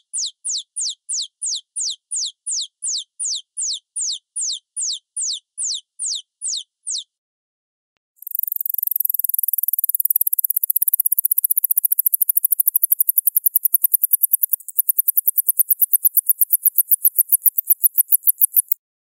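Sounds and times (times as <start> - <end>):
mouse singing high-pitched trill: 0.0 - 7.1, 8.2 - 18.8.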